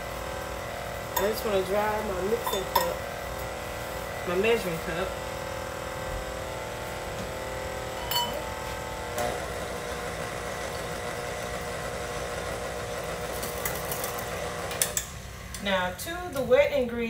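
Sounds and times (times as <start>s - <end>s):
kitchen appliance humming: 0.0s - 17.0s.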